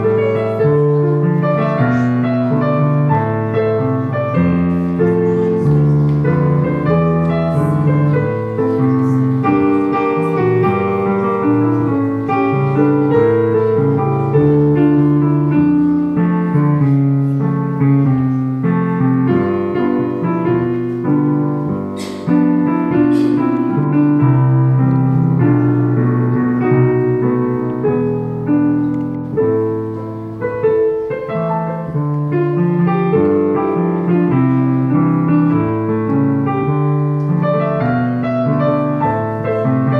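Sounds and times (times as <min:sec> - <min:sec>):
slow piano music: 0:00.0 - 0:39.9.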